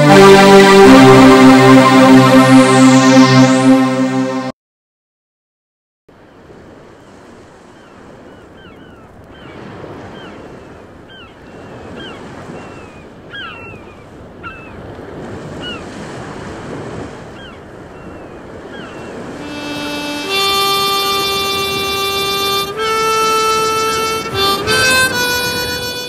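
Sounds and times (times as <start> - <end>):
sea surf washing: 0.0 - 4.5, 6.4 - 26.0.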